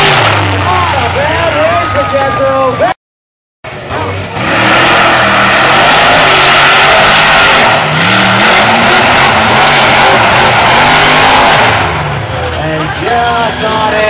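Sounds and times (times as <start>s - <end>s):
monster truck engine accelerating: 0.0s - 2.9s, 3.7s - 14.0s.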